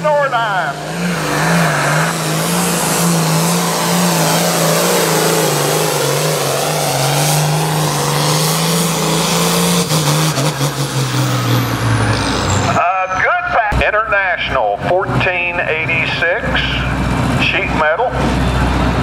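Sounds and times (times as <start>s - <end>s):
tractor diesel engine at full throttle: 0.0s - 19.0s.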